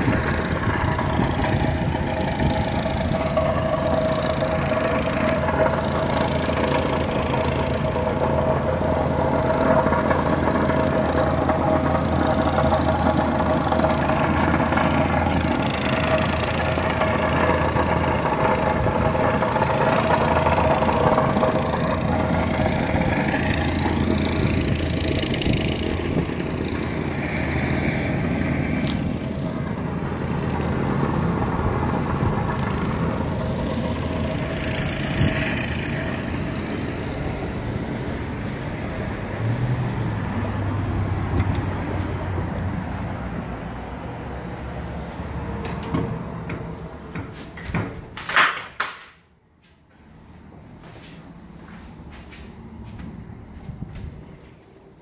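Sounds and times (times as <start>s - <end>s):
engine running steadily: 0.0s - 49.3s.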